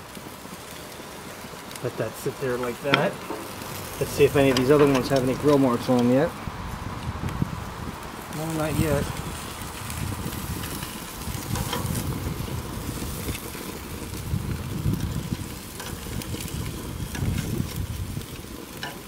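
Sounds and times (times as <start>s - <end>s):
low uneven rumble: 0.0s - 19.0s
meat sizzling on a grill: 0.0s - 19.0s.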